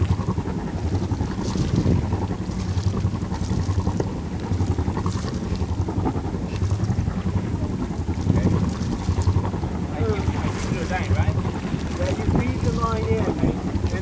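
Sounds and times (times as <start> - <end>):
low steady engine hum: 0.0 - 14.0
water splashes: 0.0 - 14.0
wind buffeting microphone: 0.0 - 14.0.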